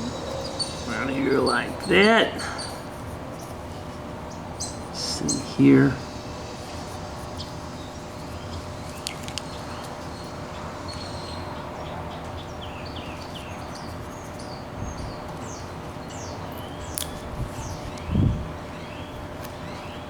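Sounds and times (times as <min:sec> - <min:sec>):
small birds chirping: 0:00.0 - 0:20.0
steady background hum and hiss: 0:00.0 - 0:20.0.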